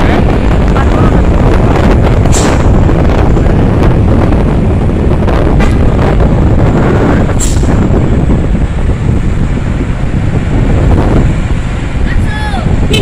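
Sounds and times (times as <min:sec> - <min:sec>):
road vehicle noise: 0:00.0 - 0:13.0
wind buffeting microphone: 0:00.0 - 0:13.0.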